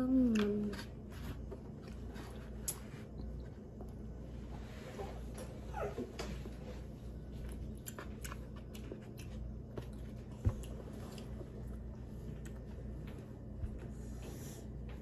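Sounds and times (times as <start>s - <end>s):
child chewing: 0.0s - 4.6s, 5.7s - 15.0s.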